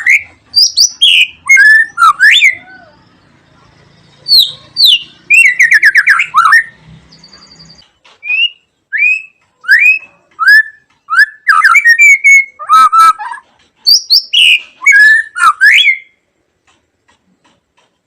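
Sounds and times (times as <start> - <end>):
bird singing whistled notes: 0.0 - 16.2.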